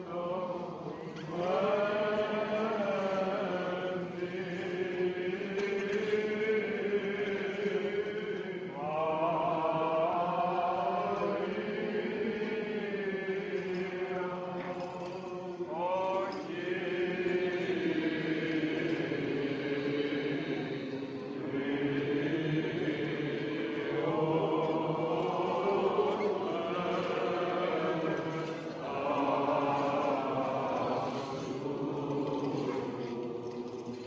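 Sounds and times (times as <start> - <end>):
voices chanting: 0.0 - 14.6, 15.3 - 34.0.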